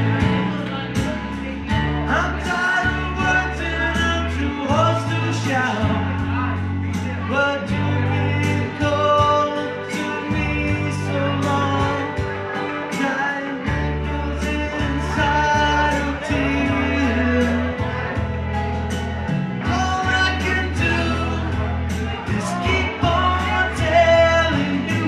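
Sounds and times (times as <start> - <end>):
backing track with beat and bass: 0.0 - 25.0
person singing: 0.0 - 25.0.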